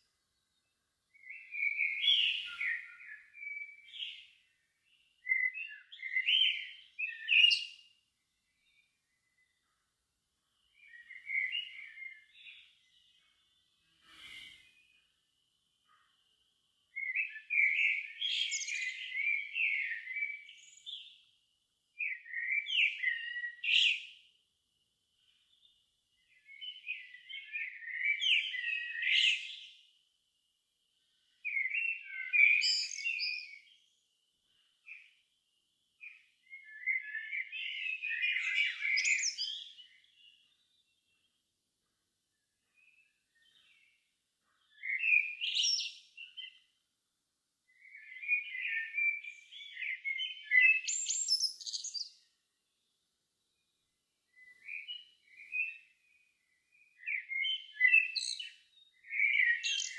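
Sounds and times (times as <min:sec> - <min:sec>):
songbird singing: 0:00.0 - 0:46.9, 0:47.6 - 0:59.9.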